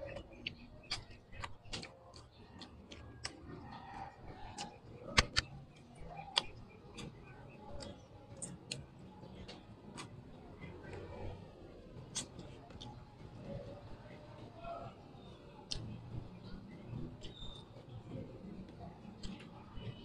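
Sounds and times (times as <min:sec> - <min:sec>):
lip smacks and chewing: 0:00.0 - 0:14.1, 0:15.2 - 0:19.9.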